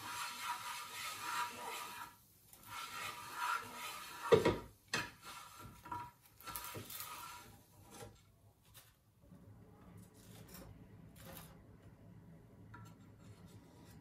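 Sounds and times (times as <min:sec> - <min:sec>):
scraping against hard surface: 0:00.0 - 0:09.0, 0:10.0 - 0:11.6, 0:12.8 - 0:14.0.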